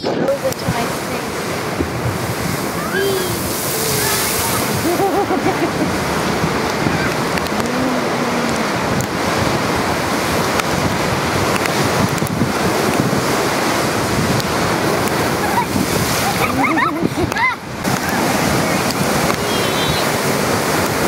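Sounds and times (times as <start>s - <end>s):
waves crashing against wall: 0.0s - 21.0s
wind buffeting microphone: 0.0s - 21.0s.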